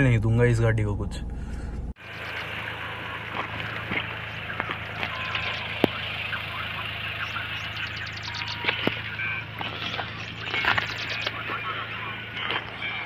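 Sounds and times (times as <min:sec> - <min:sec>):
diesel engine idling: 0:01.3 - 0:13.0
bird chirps: 0:02.0 - 0:13.0
footsteps on loose stones: 0:02.4 - 0:13.0.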